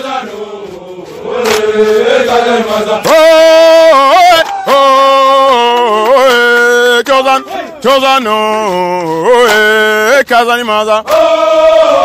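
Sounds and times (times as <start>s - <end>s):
loud voice singing long notes: 0.0s - 12.0s
men chanting: 0.0s - 12.0s.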